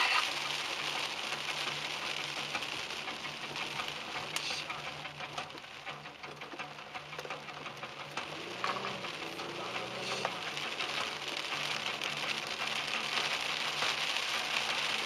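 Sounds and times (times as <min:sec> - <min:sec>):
raindrops on car windshield: 0:00.0 - 0:15.0.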